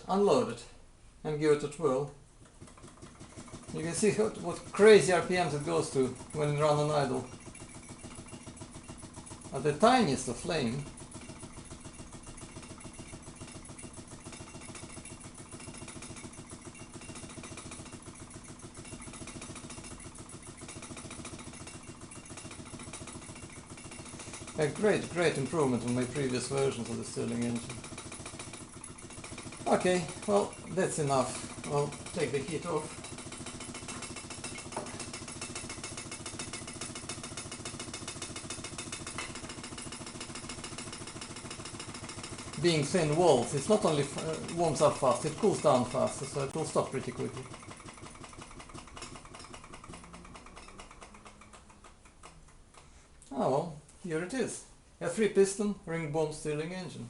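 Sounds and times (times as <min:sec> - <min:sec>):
engine mechanical clatter: 0:01.7 - 0:53.3.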